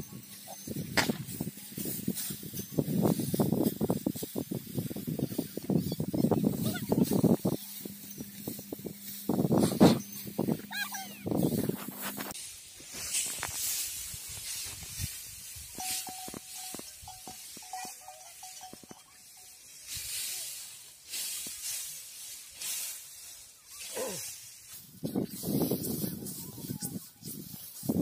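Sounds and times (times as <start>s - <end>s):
dry straw rustling and swishing: 0.1s - 28.0s.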